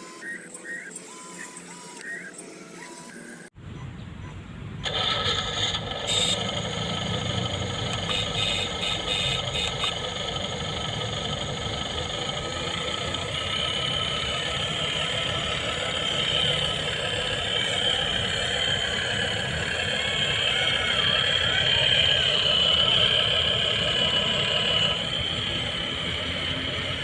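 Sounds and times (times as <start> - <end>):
model vehicle diesel engine idle: 4.8 - 27.0
higher steady whine: 4.9 - 27.0.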